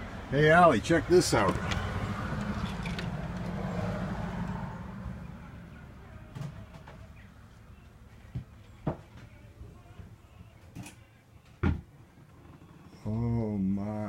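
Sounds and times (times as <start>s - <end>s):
vehicle engine hum: 0.0s - 10.7s, 11.4s - 14.0s.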